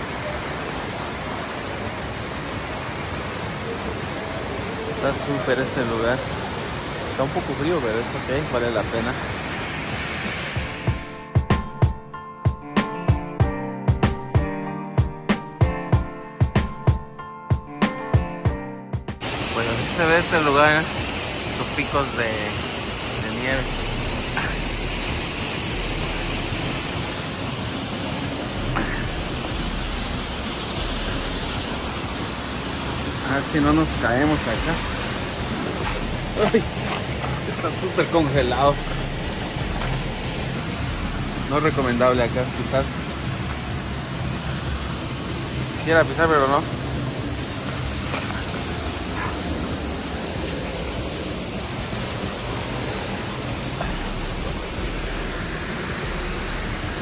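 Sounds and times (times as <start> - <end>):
waterfall rushing: 0.0 - 11.3, 19.2 - 57.0.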